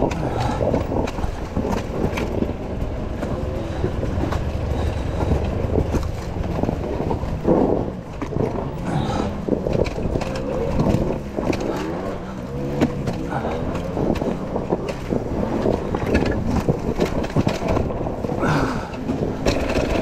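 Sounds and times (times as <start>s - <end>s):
dirt bike engines revving: 0.0s - 20.0s
knocks and clatter: 0.0s - 20.0s.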